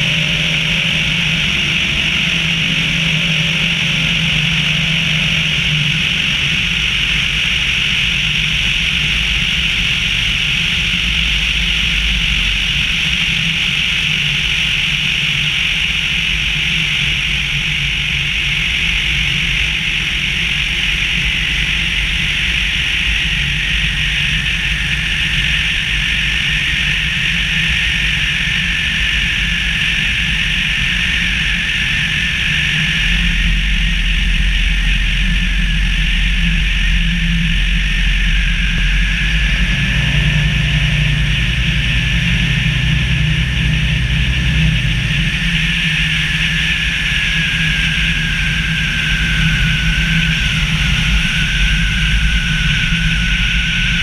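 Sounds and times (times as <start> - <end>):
aircraft engine and propeller: 0.0 - 54.0
faint steady whine: 0.0 - 54.0.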